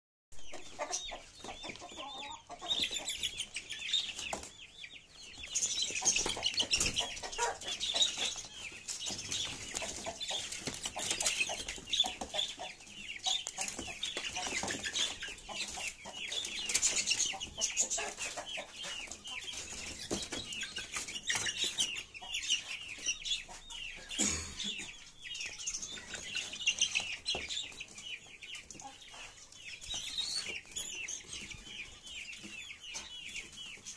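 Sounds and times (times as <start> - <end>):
chicks peeping and chirping: 0.4 - 33.9.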